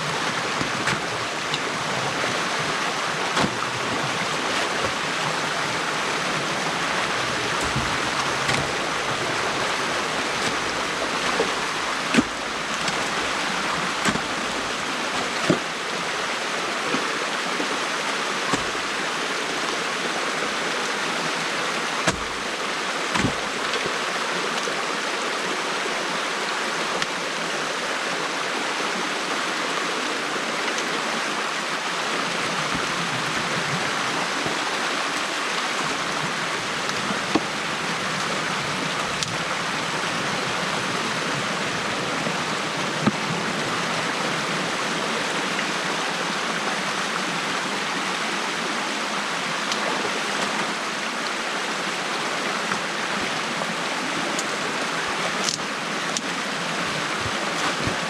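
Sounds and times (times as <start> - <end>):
water running through dam: 0.0 - 58.0.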